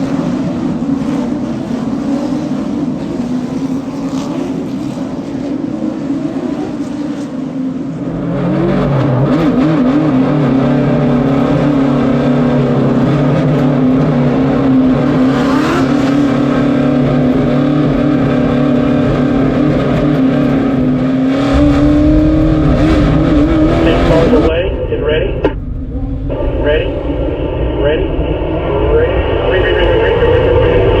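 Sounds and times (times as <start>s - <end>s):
race car engines at speed: 0.0s - 31.0s.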